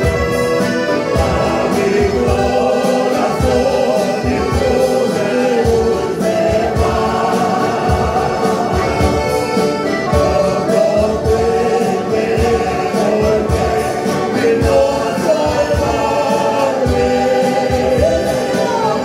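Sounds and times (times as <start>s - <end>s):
accordion: 0.0s - 19.0s
keyboard: 0.0s - 19.0s
small choir singing a hymn: 0.0s - 19.0s
strummed acoustic guitar: 0.0s - 19.0s.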